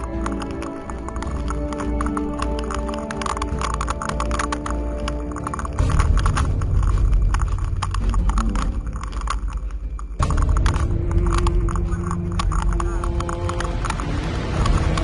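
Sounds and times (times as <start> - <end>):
bike rattling over rocky trail: 0.0 - 15.0.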